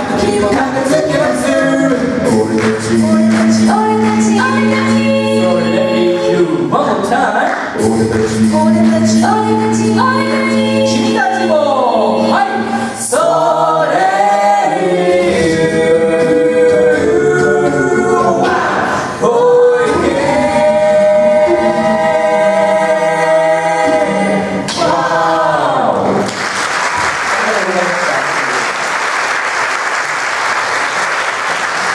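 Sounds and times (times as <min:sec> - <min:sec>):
a cappella group singing in harmony: 0:00.0 - 0:26.3.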